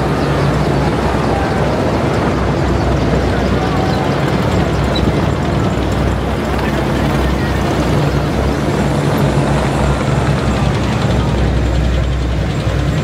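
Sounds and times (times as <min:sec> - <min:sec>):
heavy vehicles driving past: 0:00.0 - 0:13.0.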